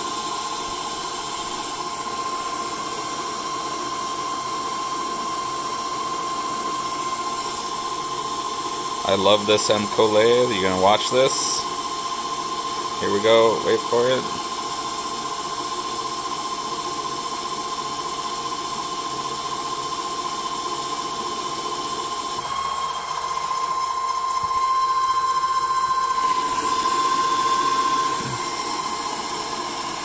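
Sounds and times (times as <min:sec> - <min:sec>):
lathe spindle whine: 0:00.0 - 0:30.0.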